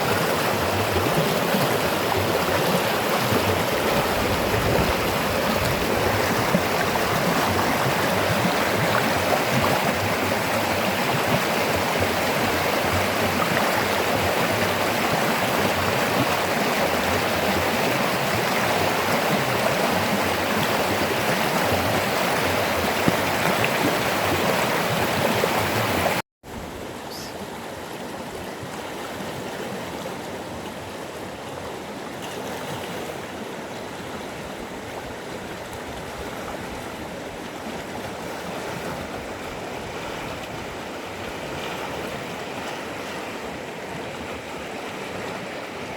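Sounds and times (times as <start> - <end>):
duller water flow: 0.0 - 45.9
river water rushing: 0.0 - 45.9.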